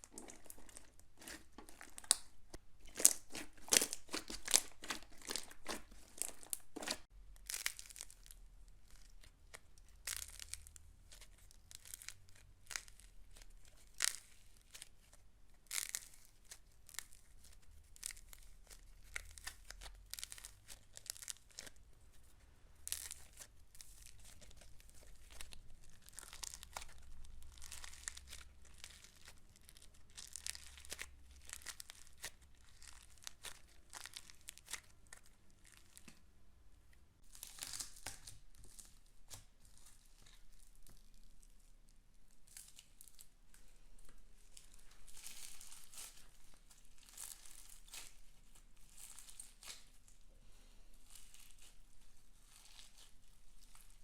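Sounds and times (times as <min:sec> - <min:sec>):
slime squeezed by hand crackling: 0:00.0 - 0:36.3, 0:42.5 - 0:50.2.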